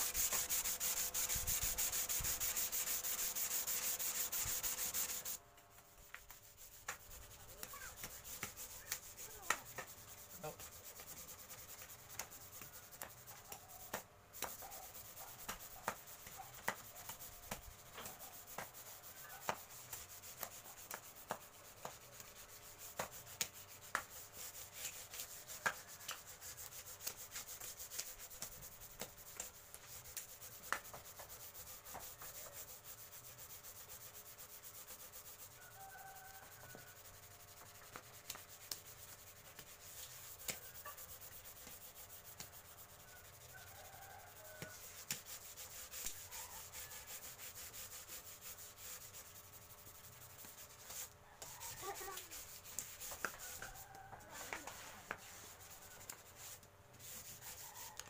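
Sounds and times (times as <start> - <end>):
sandpaper scratching on wood: 0.0 - 5.4, 6.0 - 58.0.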